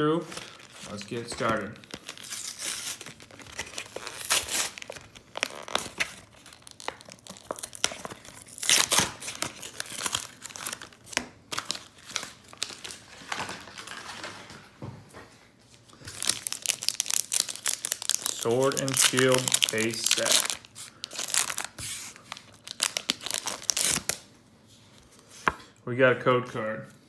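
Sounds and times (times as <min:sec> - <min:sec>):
plastic packaging tearing and crinkling: 0:00.2 - 0:14.6, 0:16.0 - 0:24.3.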